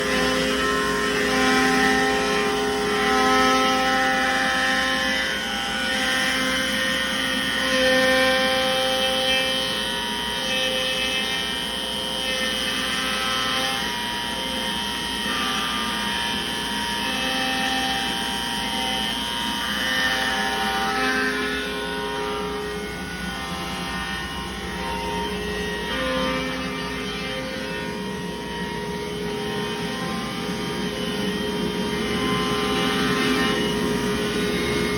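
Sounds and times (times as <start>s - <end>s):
router whining and cutting wood: 0.0s - 34.9s.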